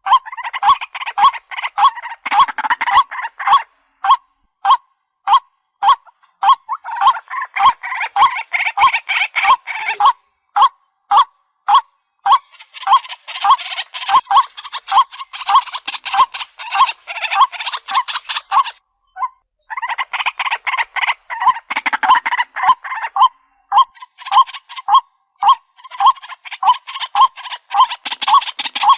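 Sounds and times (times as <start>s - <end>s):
waterhen repeated loud call: 0.0s - 28.9s
waterhens harsh chattering: 0.1s - 18.8s, 19.7s - 28.9s.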